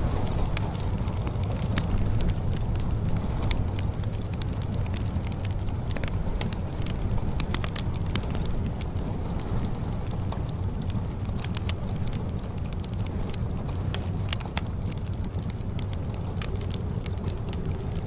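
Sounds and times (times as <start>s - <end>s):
fire crackling: 0.0s - 18.0s
low rain rumble: 0.0s - 18.0s.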